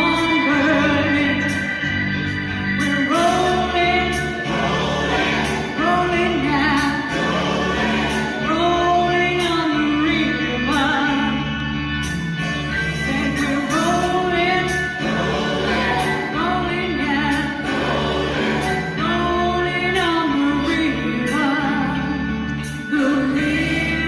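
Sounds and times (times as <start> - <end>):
choir singing pop song: 0.0 - 24.0
instrumental backing: 0.0 - 24.0.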